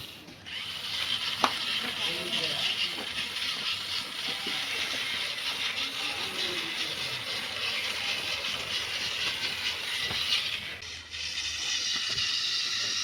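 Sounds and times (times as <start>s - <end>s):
toy car motors whirring: 0.0s - 13.0s.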